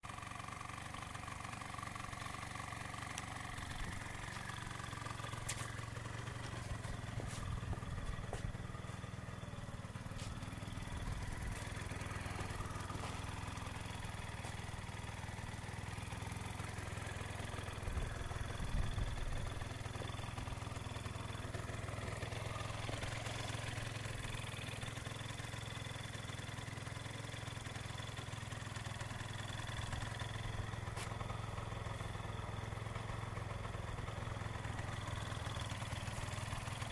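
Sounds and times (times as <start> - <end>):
scooter engine idling: 0.0 - 36.9.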